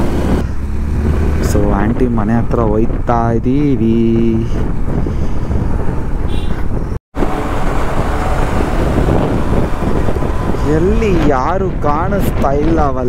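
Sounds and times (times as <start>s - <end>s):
motorcycle road noise: 0.0s - 13.0s
wind rushing over microphone: 0.0s - 13.0s.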